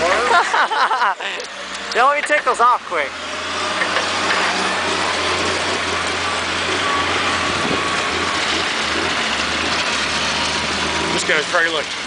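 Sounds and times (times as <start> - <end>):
diesel machinery engine drone: 0.0 - 12.0
loud noisy wash: 1.5 - 12.0.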